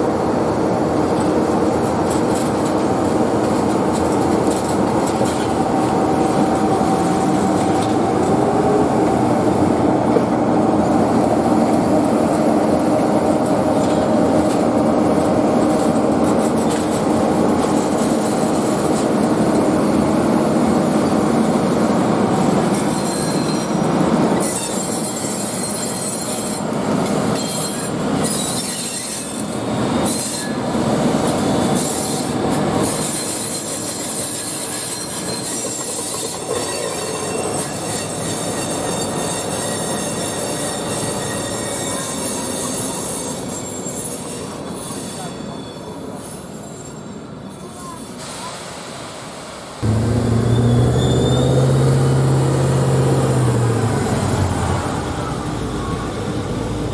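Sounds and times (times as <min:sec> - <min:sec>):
train rolling noise: 0:00.0 - 0:48.2
train wheels squealing on rails: 0:00.0 - 0:49.8, 0:50.4 - 0:52.3, 0:53.5 - 0:56.9.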